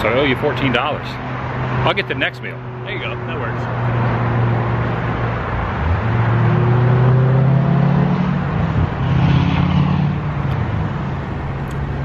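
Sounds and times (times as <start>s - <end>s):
steady traffic rumble: 0.0s - 12.0s
vehicle passing: 0.1s - 12.0s.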